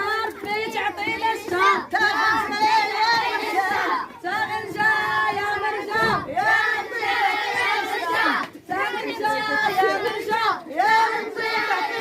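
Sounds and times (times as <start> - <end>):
children and women chanting: 0.0 - 12.0.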